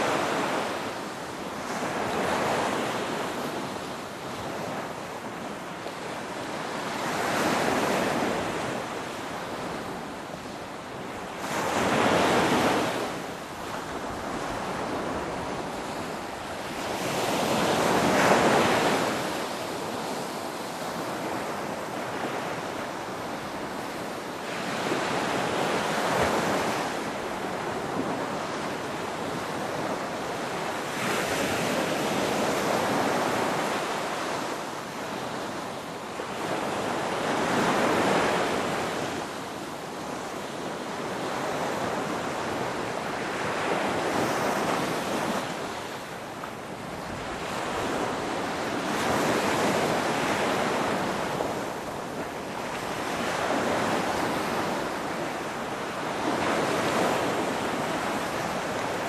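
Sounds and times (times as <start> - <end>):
ocean waves breaking as surf: 0.0 - 59.0.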